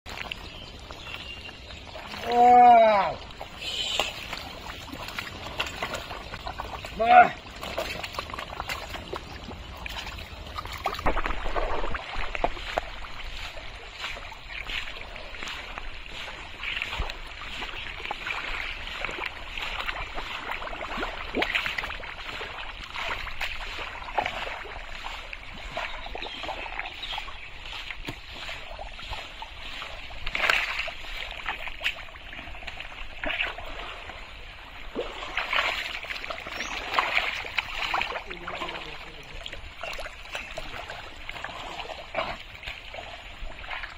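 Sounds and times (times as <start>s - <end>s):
mud squelching: 0.1s - 43.9s
water splashes: 0.1s - 43.9s.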